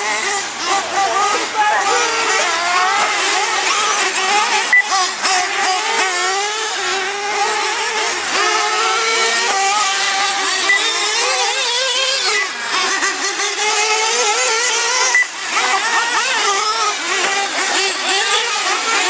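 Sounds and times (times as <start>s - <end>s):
small engines buzzing at high revs: 0.0s - 19.0s.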